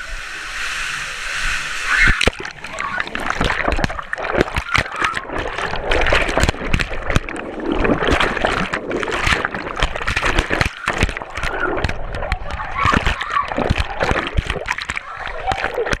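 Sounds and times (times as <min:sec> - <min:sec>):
water sloshing and splashing: 0:01.3 - 0:16.0.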